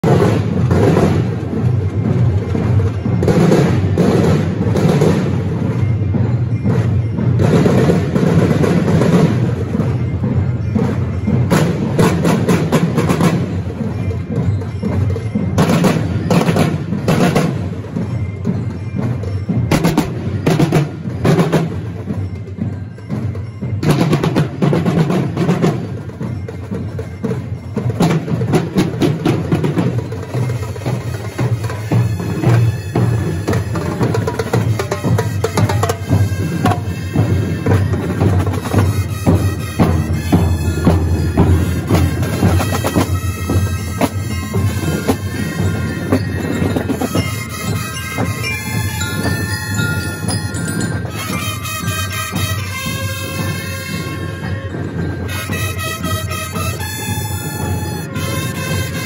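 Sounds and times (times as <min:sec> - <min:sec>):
marching drumline: 0:00.0 - 0:59.0.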